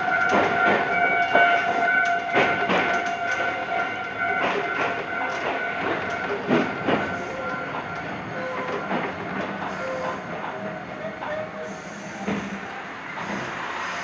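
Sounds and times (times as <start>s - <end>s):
electric train whine: 0.0s - 14.0s
wheels clacking over rail joints: 0.0s - 14.0s.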